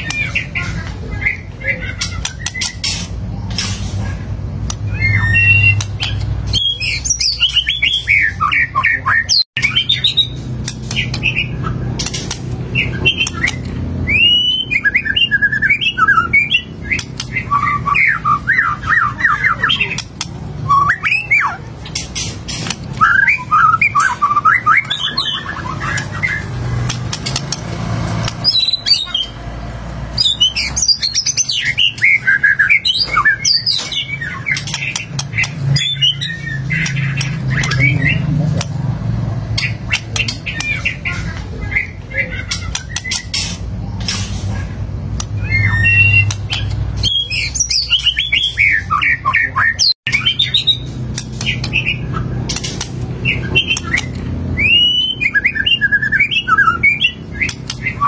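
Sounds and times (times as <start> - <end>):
songbird singing rapid phrases: 0.0 - 58.0.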